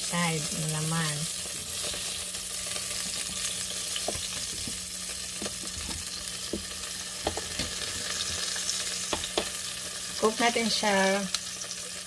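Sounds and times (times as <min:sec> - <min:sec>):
chicken sizzling: 0:00.0 - 0:12.0.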